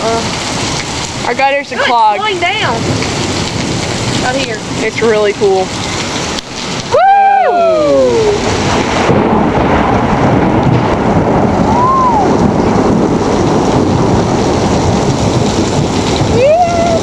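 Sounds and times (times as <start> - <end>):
heavy rain pouring: 0.0 - 17.0
wind buffeting microphone: 0.0 - 17.0.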